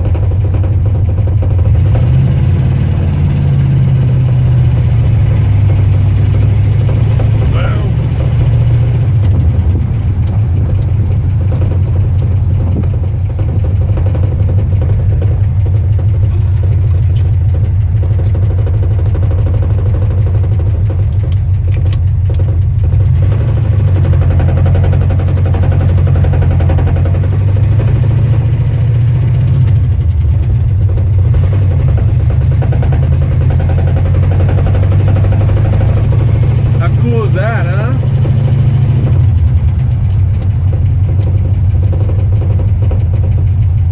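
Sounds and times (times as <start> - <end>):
pickup engine idling: 0.0 - 43.9.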